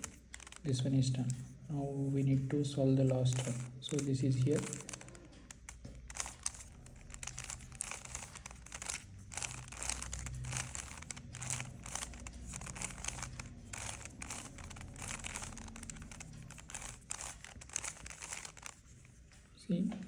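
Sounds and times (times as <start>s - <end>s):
plastic puzzle cube twisting clicks: 0.0s - 1.5s, 3.0s - 19.4s.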